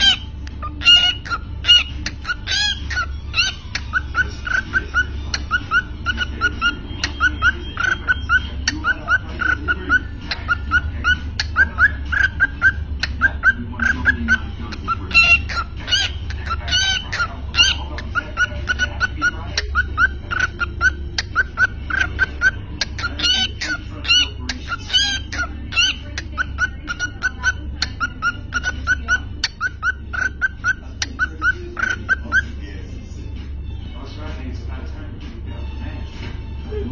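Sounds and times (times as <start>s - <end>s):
cockatiel chirping: 0.0s - 32.6s.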